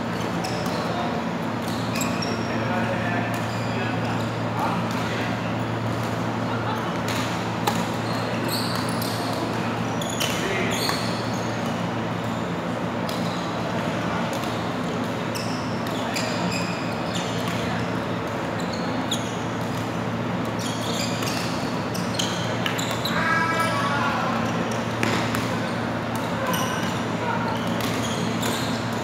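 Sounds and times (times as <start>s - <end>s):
shoes squeaking on court floor: 0.0s - 6.2s, 6.8s - 13.7s, 14.3s - 29.0s.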